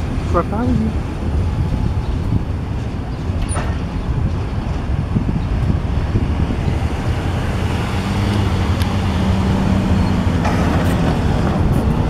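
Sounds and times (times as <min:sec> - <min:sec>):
freight train rumble: 0:00.0 - 0:12.0.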